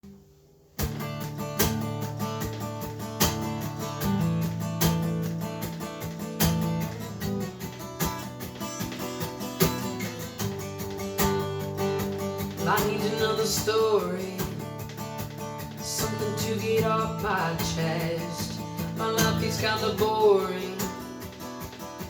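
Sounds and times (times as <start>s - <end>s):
acoustic guitar strumming: 0.1s - 22.0s.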